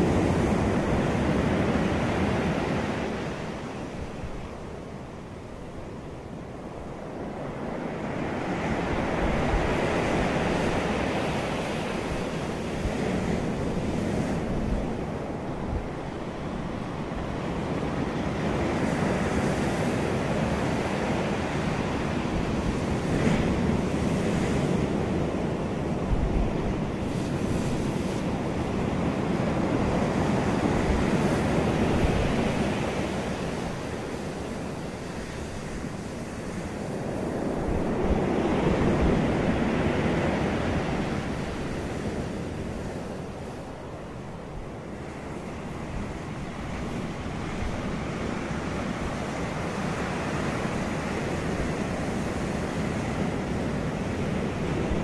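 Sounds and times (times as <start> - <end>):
ocean surf breaking on beach: 0.0 - 55.0.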